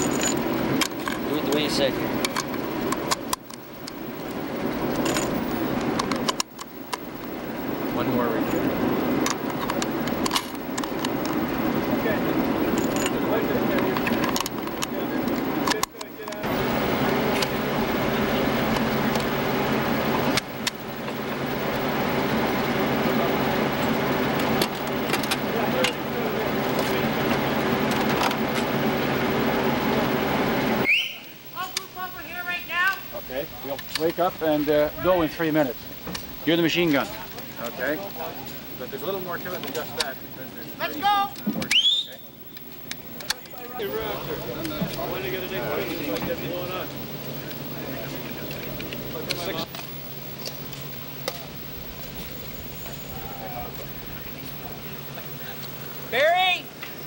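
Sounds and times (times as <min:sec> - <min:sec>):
engine idling: 0:00.0 - 0:57.0
low background noise: 0:00.0 - 0:57.0.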